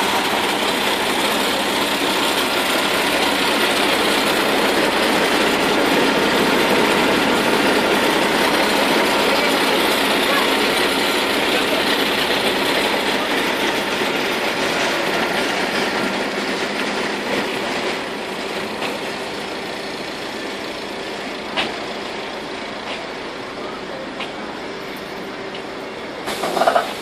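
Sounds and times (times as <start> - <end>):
steady mechanical running noise: 0.0 - 27.0.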